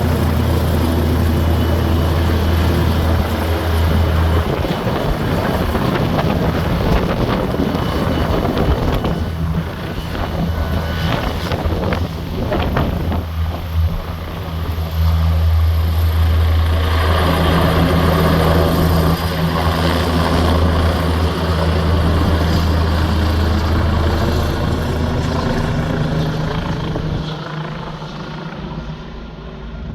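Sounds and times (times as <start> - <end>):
helicopter rotors and engines: 0.0 - 29.9.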